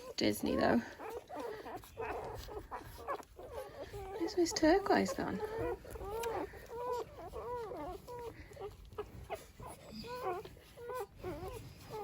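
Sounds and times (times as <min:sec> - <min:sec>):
puppies whimpering and squealing: 0:00.0 - 0:12.0.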